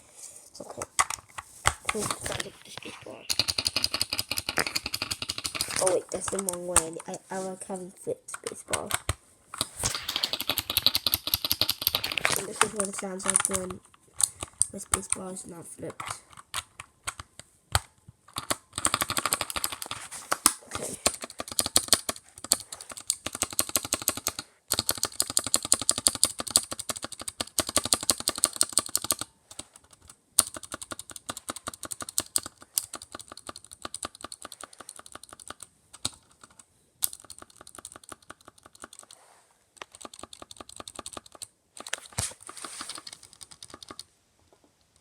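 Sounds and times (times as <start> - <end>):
mechanical keyboard typing: 0.8 - 39.2, 39.8 - 44.1.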